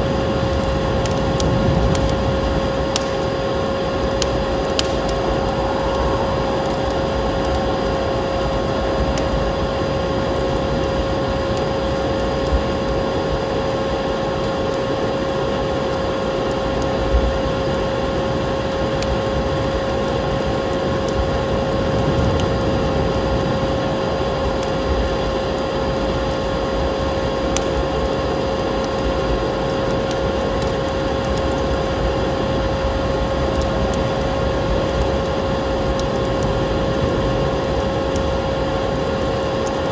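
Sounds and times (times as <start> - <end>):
constant low hum: 0.0 - 39.9
steady rushing noise: 0.0 - 39.9
wood fire crackling: 0.0 - 39.9.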